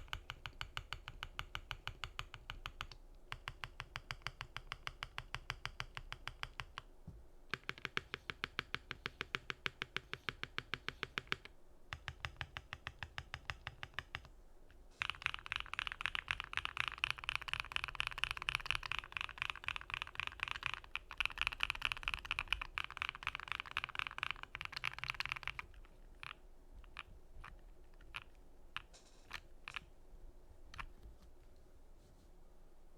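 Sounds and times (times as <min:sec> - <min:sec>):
typing on mechanical keyboard: 0:00.0 - 0:06.8, 0:07.5 - 0:14.3, 0:15.0 - 0:29.9.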